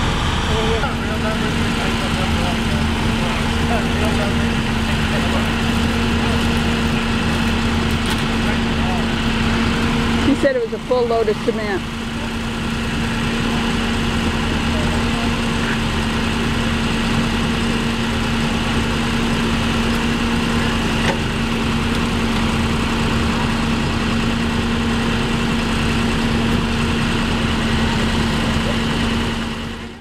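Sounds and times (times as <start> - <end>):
large engine idling: 0.0 - 30.0.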